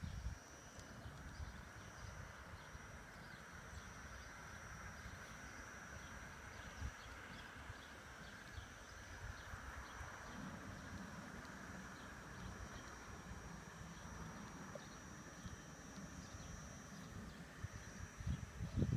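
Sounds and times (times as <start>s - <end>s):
thin high whine: 0.0s - 18.9s.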